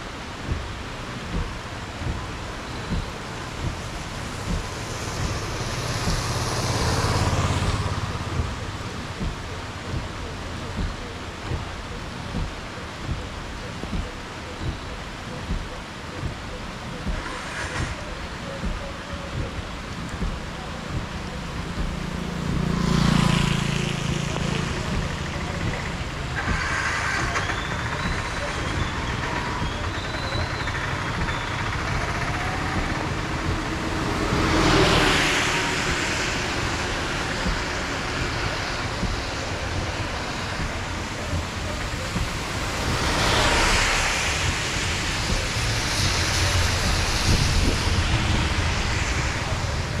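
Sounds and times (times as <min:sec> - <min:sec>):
steady rain: 0:00.0 - 0:50.0
tyres hissing on wet road: 0:00.0 - 0:50.0.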